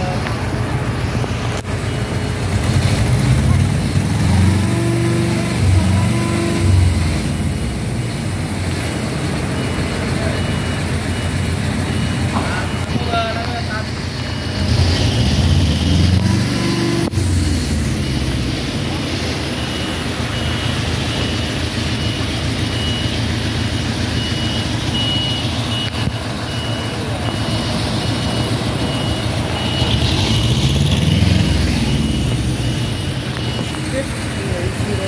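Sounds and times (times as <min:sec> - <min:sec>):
heavy truck engine running: 0:00.0 - 0:35.0
warning beeper beeping: 0:00.0 - 0:35.0.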